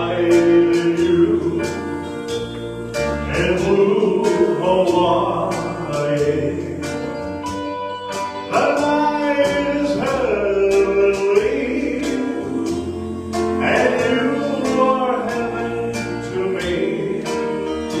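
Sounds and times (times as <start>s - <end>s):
man singing slow song: 0.0s - 7.2s, 8.4s - 18.0s
backing music with steady beat: 0.0s - 18.0s.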